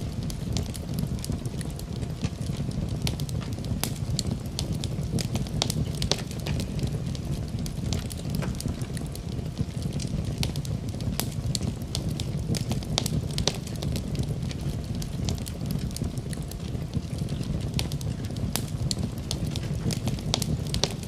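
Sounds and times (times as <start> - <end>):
low steady rumble: 0.0 - 21.0
wood fire crackling: 0.0 - 21.0.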